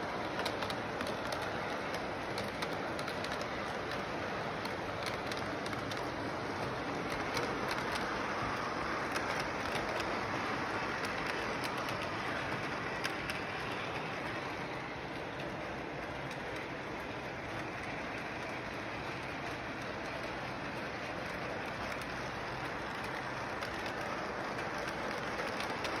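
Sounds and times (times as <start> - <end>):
faint clicks: 0.0 - 26.0
model train rolling on track: 0.0 - 26.0.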